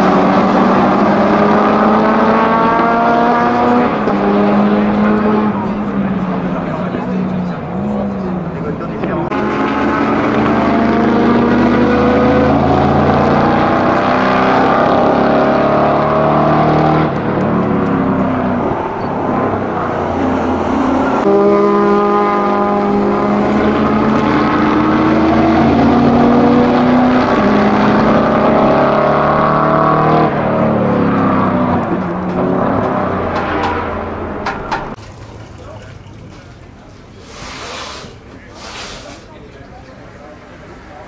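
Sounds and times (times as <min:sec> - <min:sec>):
race car engine accelerating: 0:00.0 - 0:35.0.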